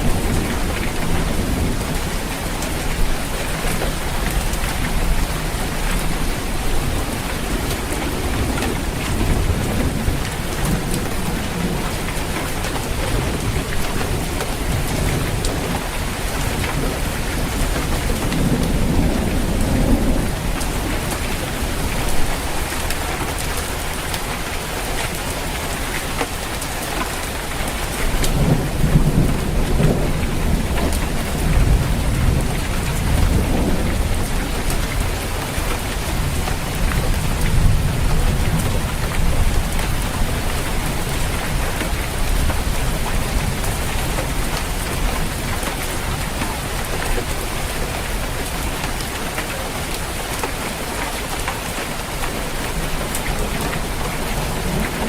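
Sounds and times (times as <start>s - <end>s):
rolling thunder: 0.0s - 24.5s, 27.3s - 48.7s, 52.3s - 55.0s
rain drumming on a roof: 0.0s - 55.0s.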